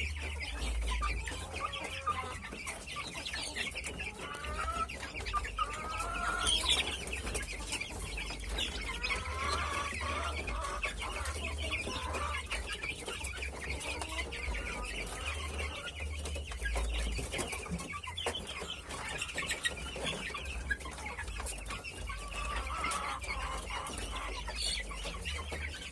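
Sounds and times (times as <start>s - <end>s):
chicks peeping: 0.0s - 25.9s
hens clucking: 0.0s - 25.9s.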